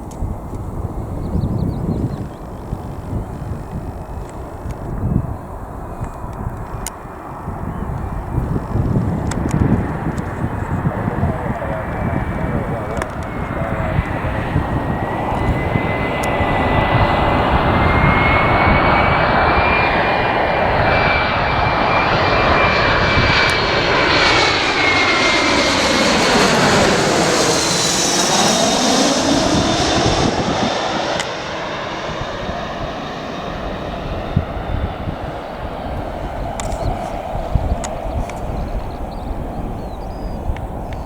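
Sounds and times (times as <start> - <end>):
airliner engines passing: 0.0 - 41.0.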